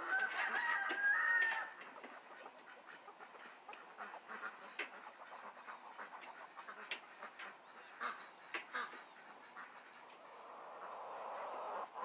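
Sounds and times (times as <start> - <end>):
ducks quacking: 2.0 - 12.0.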